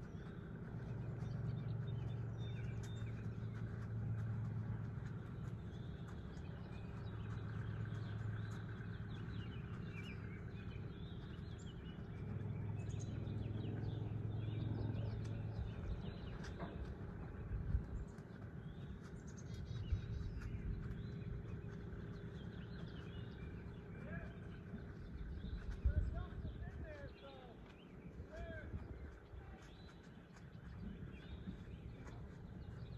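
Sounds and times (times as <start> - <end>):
low outdoor rumble: 0.0 - 32.9
small birds chirping: 0.0 - 32.9.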